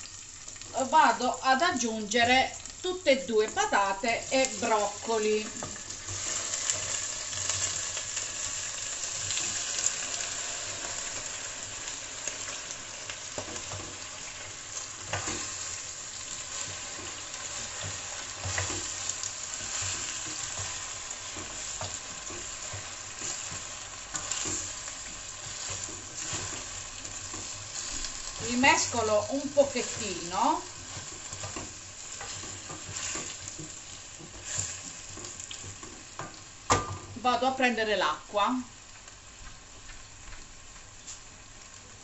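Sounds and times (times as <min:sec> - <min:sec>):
vegetables sizzling in hot oil: 0:00.0 - 0:42.0.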